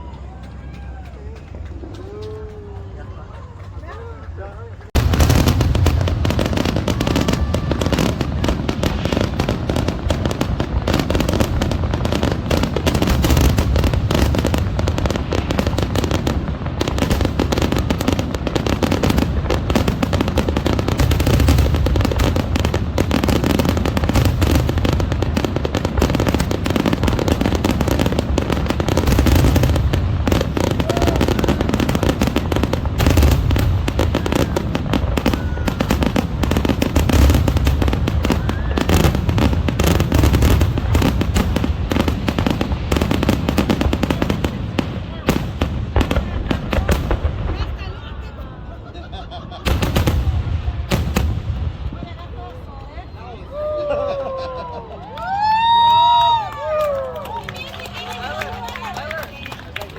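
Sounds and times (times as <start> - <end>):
fireworks booming and crackling: 0.0 - 59.9.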